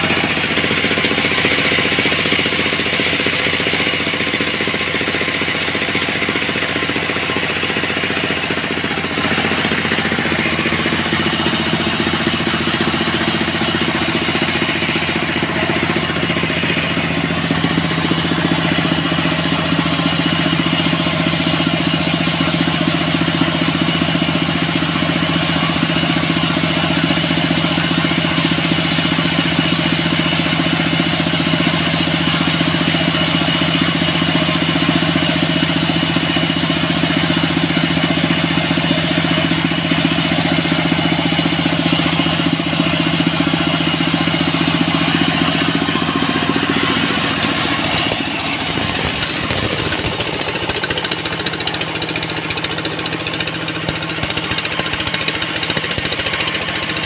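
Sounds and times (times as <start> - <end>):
sawmill engine droning: 0.0 - 57.0.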